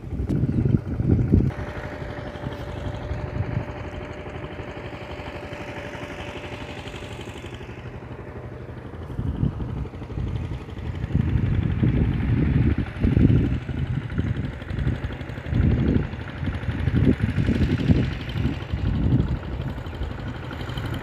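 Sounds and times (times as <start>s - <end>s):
vehicle engine passing: 0.0s - 21.0s
wind buffeting microphone: 0.0s - 21.0s.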